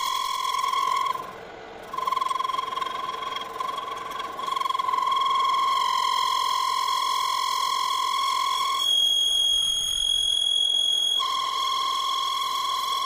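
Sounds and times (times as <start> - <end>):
lathe tool squealing on metal: 0.0 - 13.0.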